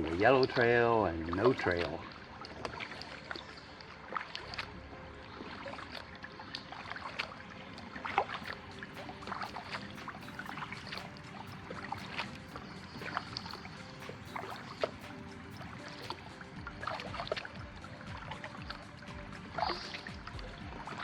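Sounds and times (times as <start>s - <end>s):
paddle splashing water: 0.0s - 21.0s.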